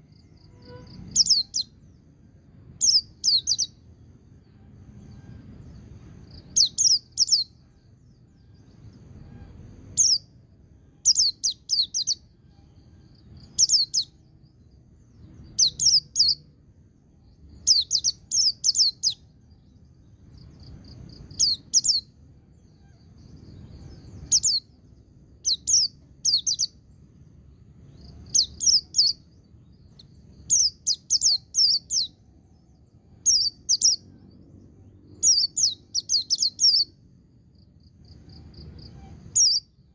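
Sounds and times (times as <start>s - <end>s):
bird chirping high: 0.0s - 2.1s, 2.7s - 10.3s, 10.9s - 16.5s, 17.4s - 27.0s, 27.8s - 37.1s, 38.1s - 39.9s
faint bird twittering: 0.0s - 39.9s.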